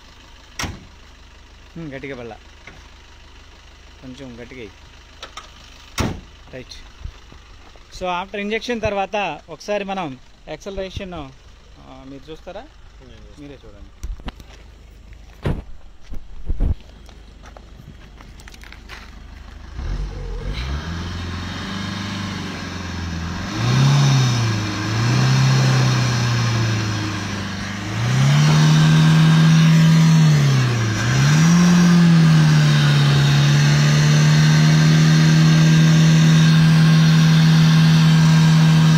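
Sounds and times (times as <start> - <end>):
diesel car engine accelerating: 0.0 - 38.9.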